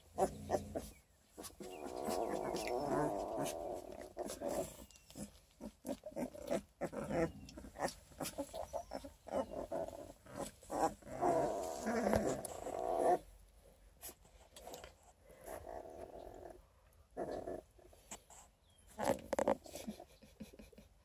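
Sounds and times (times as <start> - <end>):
puppies whining and grunting: 0.0 - 13.3, 14.5 - 18.2.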